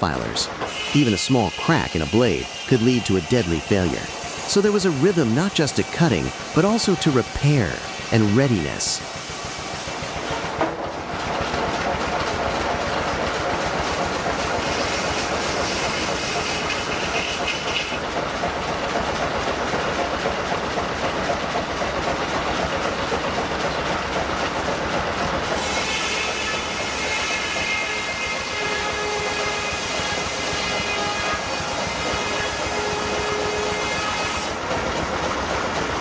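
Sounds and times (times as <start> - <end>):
steam machinery clattering and hissing: 0.0 - 36.0.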